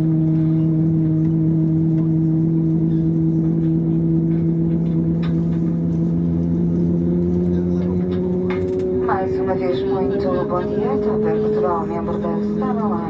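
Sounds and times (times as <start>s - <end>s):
aircraft cabin engine hum: 0.0s - 13.0s.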